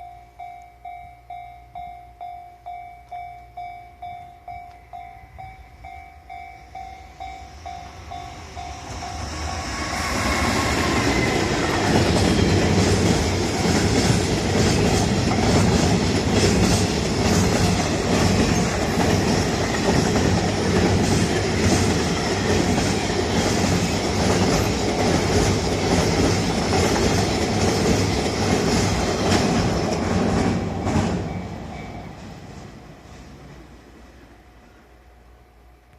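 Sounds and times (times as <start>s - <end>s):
freight train rumbling past: 3.6s - 35.9s.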